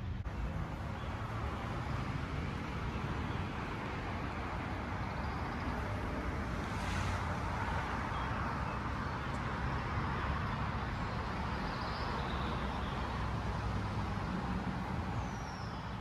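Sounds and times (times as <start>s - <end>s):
road traffic hiss: 0.0s - 16.0s.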